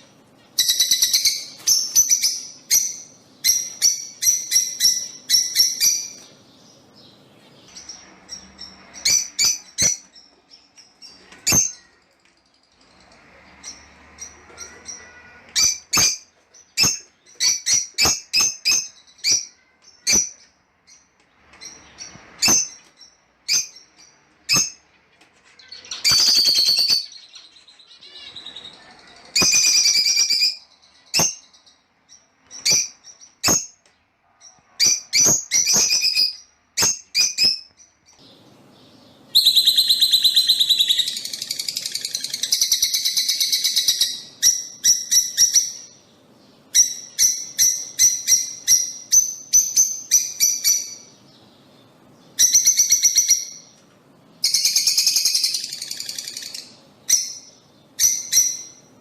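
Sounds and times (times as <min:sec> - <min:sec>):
lovebirds chirping and chattering: 0:00.0 - 0:59.0.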